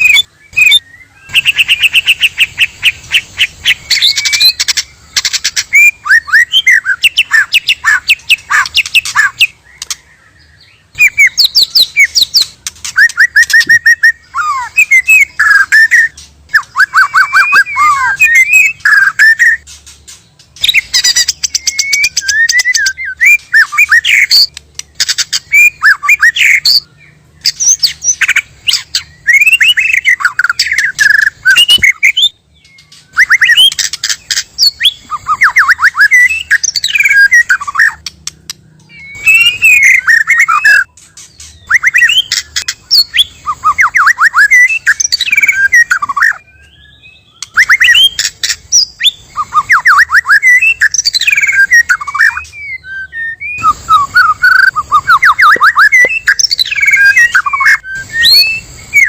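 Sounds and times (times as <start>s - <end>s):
bird singing whistled phrases: 0.0s - 19.8s, 20.6s - 59.0s.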